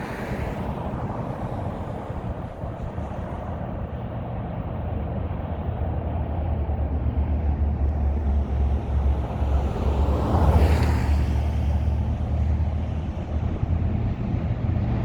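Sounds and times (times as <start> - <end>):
diesel locomotive rumble: 0.6 - 15.0.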